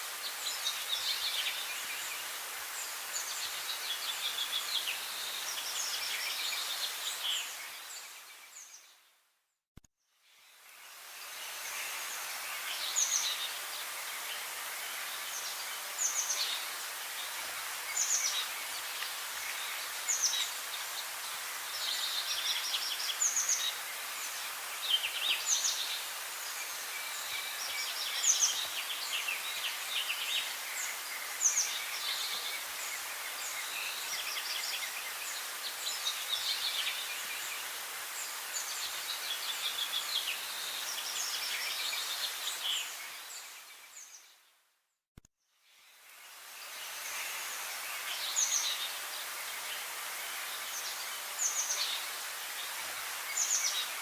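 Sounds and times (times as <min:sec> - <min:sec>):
background hiss: 0:00.0 - 0:09.2, 0:10.2 - 0:44.6, 0:45.6 - 0:54.0
songbirds chirping: 0:00.0 - 0:09.2, 0:10.3 - 0:44.6, 0:45.8 - 0:54.0.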